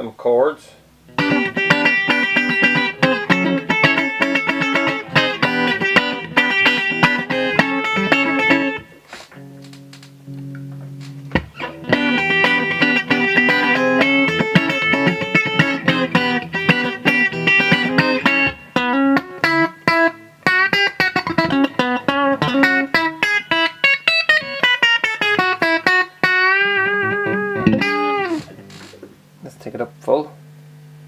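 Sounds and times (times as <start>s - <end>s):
clean electric guitar chords: 1.0s - 23.8s, 25.2s - 29.1s.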